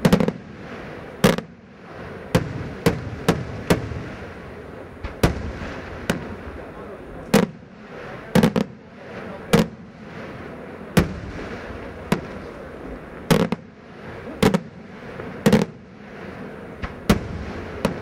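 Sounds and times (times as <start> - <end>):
fireworks bursting with sharp bangs: 0.0 - 18.0.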